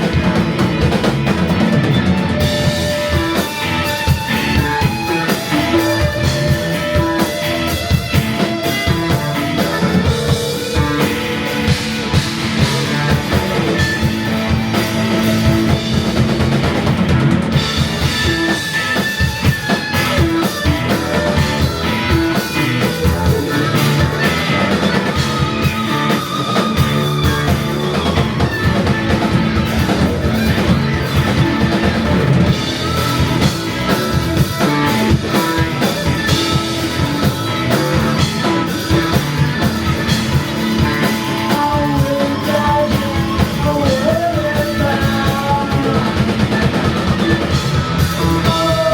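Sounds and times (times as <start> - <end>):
psychedelic rock band playing: 0.0 - 48.9.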